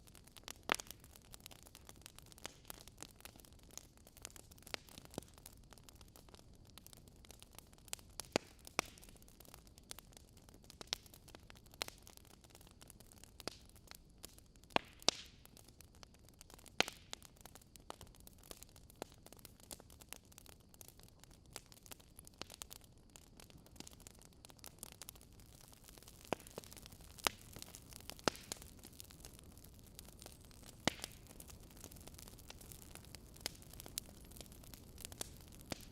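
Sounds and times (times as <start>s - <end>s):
fire crackling: 0.0s - 35.9s.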